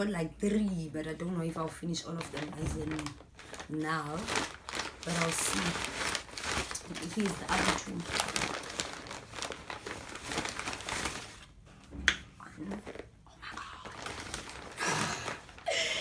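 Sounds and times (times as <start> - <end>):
paper wrappers crinkling: 1.6 - 11.6, 12.6 - 16.0.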